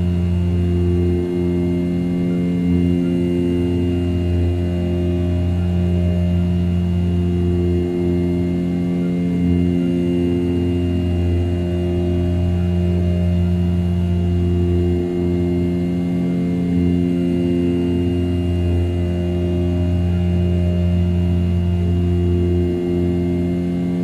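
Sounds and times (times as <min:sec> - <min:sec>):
milling machine humming: 0:00.0 - 0:24.0.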